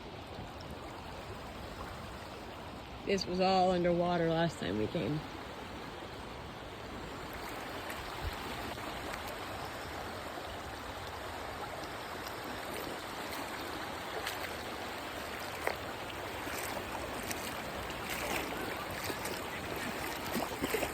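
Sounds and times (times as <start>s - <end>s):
flowing river water: 0.0s - 20.9s.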